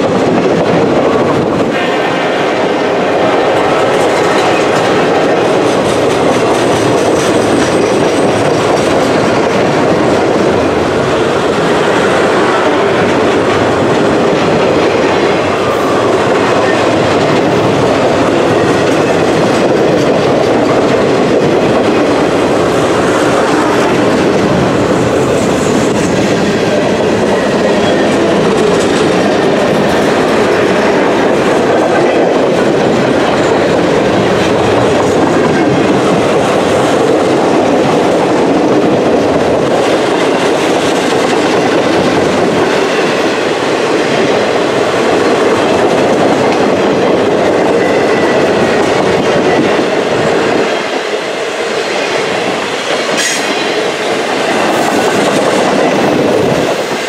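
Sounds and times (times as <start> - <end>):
train wheels rolling on track: 0.0 - 57.0.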